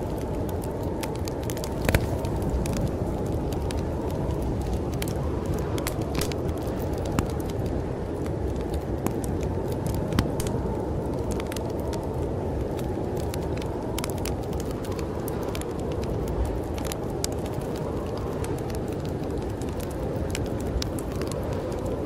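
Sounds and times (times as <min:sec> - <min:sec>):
rushing wind: 0:00.0 - 0:22.0
wood fire crackling: 0:00.0 - 0:22.0.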